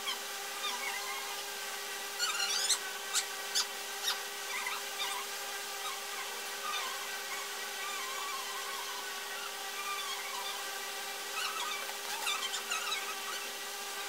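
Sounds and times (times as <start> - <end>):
background hum: 0.0 - 14.0.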